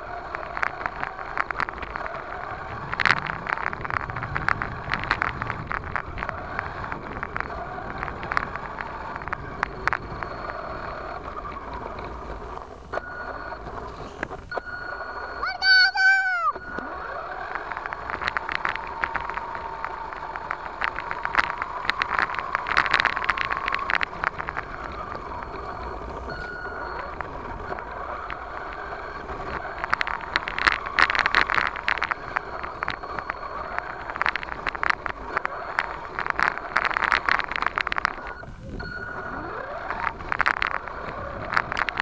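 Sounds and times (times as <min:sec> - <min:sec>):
toy car motor whine: 0:00.0 - 0:42.0.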